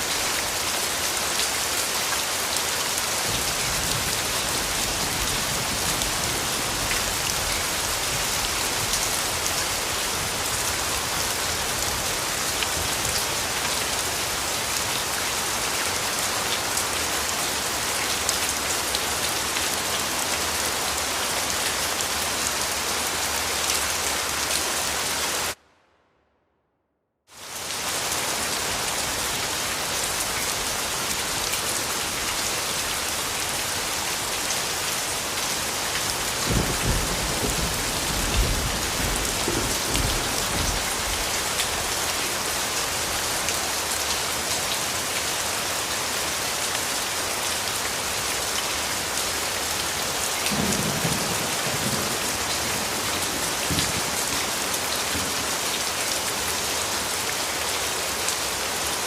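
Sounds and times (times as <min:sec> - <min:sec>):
steady rain falling: 0:00.0 - 0:25.6, 0:27.3 - 0:59.0.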